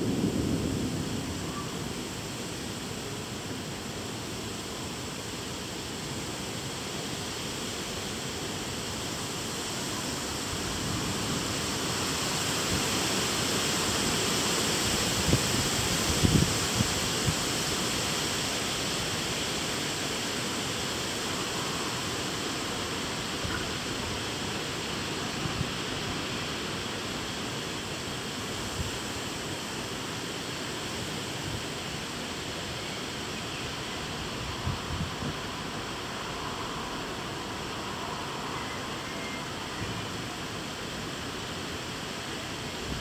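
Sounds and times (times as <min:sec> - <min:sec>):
rain hissing: 0:00.0 - 0:43.0.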